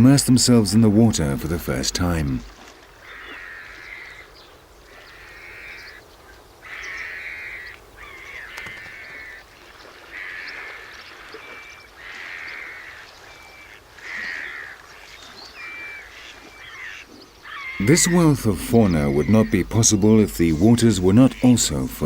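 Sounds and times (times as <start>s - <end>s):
grebes harsh rasping calls: 0.0s - 14.8s, 15.6s - 22.0s.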